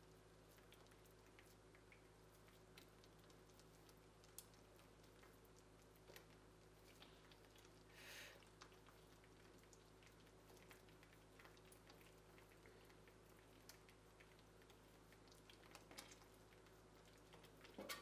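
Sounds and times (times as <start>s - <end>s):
low steady hum: 0.0s - 18.0s
wet ticks of yarn pressed: 0.0s - 18.0s.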